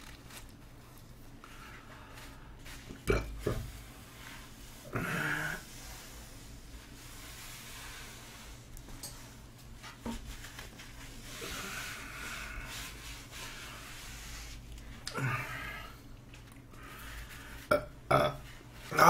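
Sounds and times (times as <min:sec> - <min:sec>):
hands rustling a sheet: 0:00.0 - 0:17.7.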